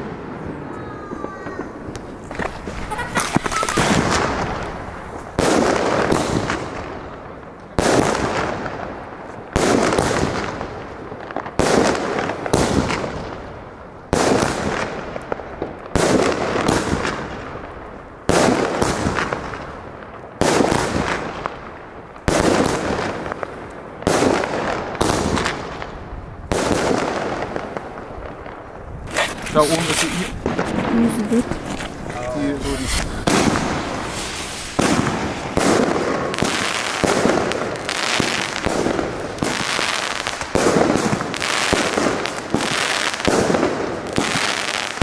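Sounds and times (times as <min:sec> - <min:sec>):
firework bangs: 0:00.0 - 0:45.0.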